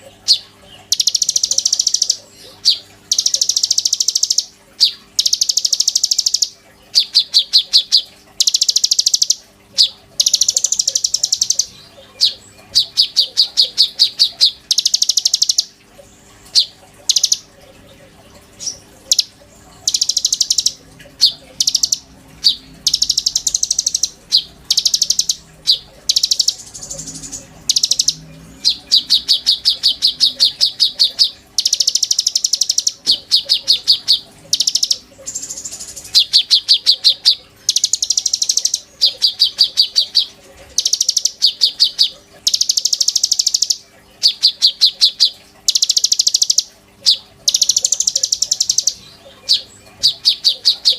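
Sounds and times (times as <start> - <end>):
songbird chattering trills: 0.0 - 15.8, 16.5 - 50.9
faint steady hum: 0.0 - 50.9.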